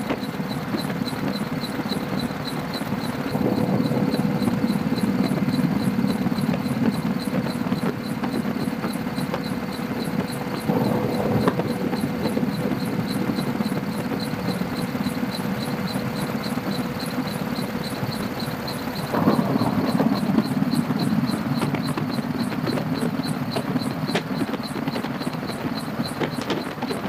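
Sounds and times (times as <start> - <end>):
faint steady hum: 0.0 - 27.0
helicopter engine and rotor drone: 0.0 - 27.0.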